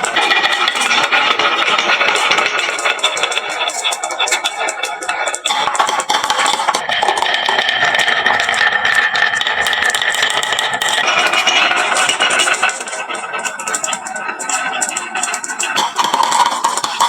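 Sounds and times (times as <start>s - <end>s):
marbles rolling down wooden slope: 0.0s - 17.0s.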